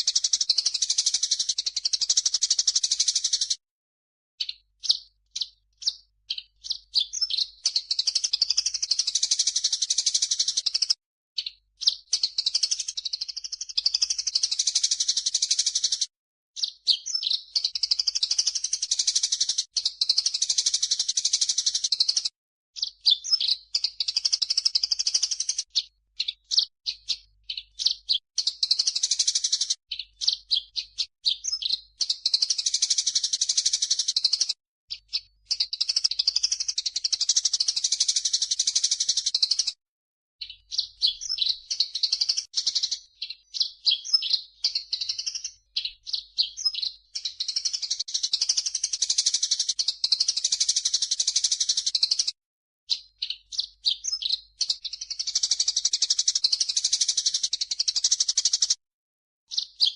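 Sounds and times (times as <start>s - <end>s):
bird chirps: 0.0s - 3.6s, 4.4s - 16.0s, 16.6s - 39.8s, 40.4s - 52.3s, 52.9s - 58.7s, 59.5s - 59.9s.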